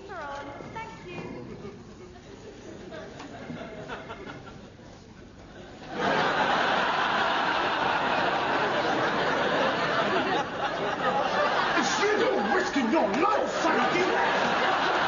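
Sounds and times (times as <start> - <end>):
audience laughing: 1.5 - 4.8, 5.6 - 15.0.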